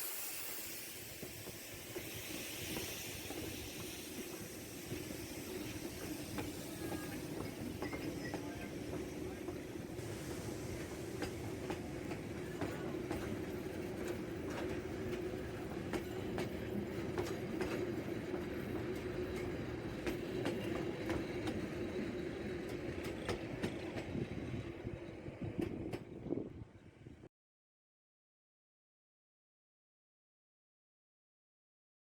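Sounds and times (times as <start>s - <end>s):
train rolling on track: 0.0s - 27.2s.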